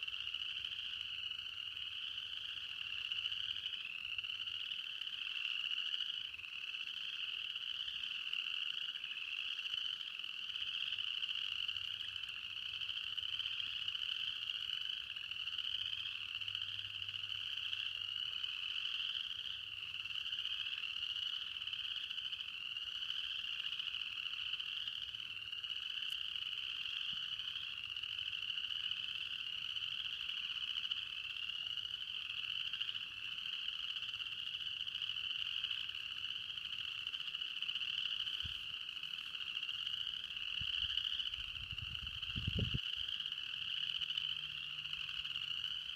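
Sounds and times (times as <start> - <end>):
chorus of frogs trilling: 0.0 - 45.9.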